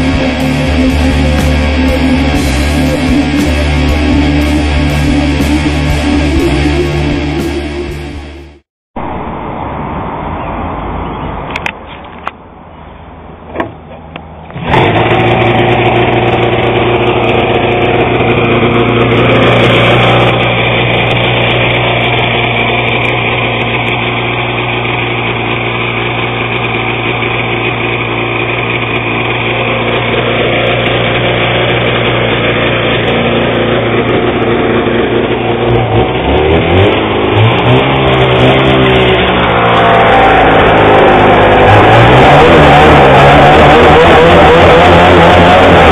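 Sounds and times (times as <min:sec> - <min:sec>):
snowmobile engine idling and revving: 0:00.0 - 0:08.6, 0:13.6 - 0:45.9.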